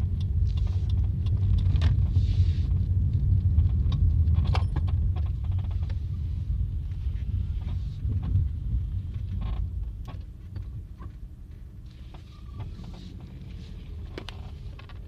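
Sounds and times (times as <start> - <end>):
car rumbling on the move: 0.0 - 15.0.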